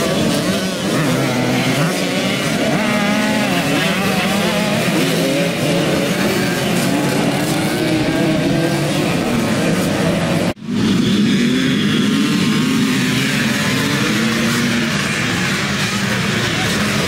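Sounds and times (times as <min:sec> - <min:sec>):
motocross bikes revving past: 0:00.0 - 0:17.0.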